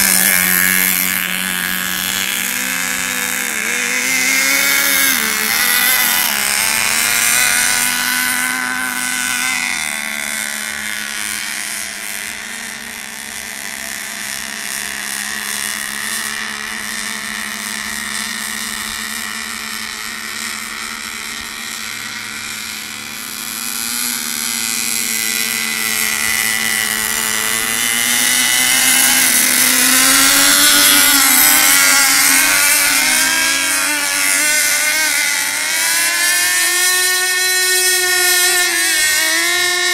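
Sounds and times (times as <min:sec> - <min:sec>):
racing boat engines buzzing: 0:00.0 - 0:39.9.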